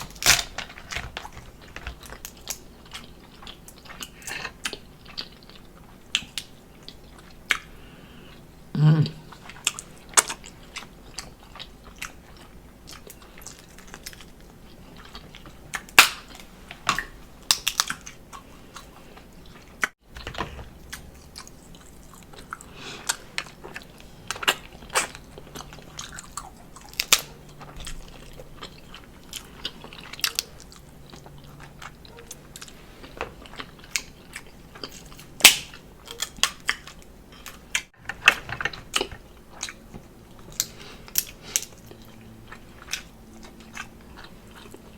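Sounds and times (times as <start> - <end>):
wet chewing: 0.0 - 44.9.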